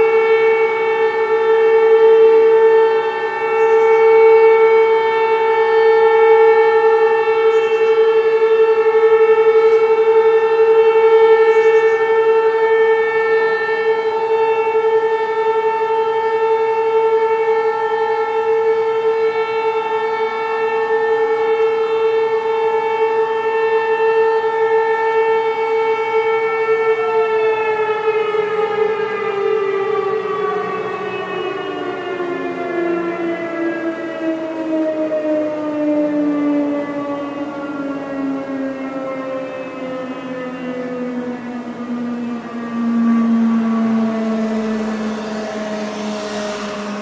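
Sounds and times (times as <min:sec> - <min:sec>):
air-raid siren wailing: 0:00.0 - 0:47.0.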